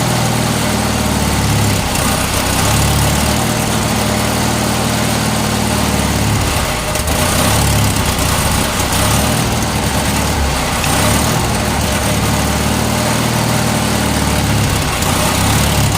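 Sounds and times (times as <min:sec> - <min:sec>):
garden tractor engine running: 0:00.0 - 0:15.9.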